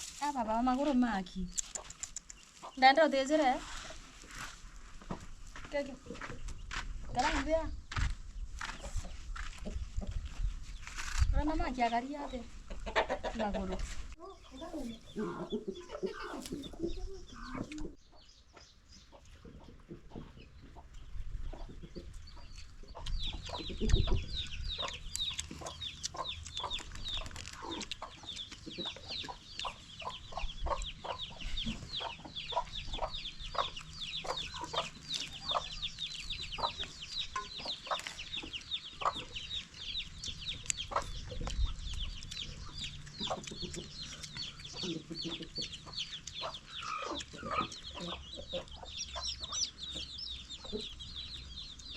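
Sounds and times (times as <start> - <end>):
chickens clucking: 0.0 - 51.9.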